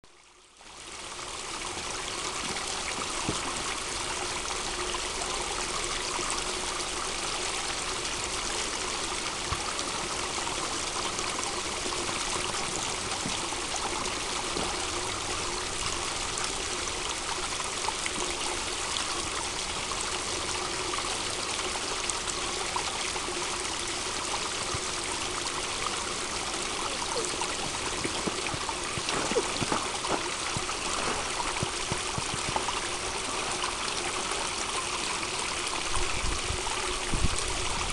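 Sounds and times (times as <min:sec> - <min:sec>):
stream of water running: 0:00.0 - 0:37.9.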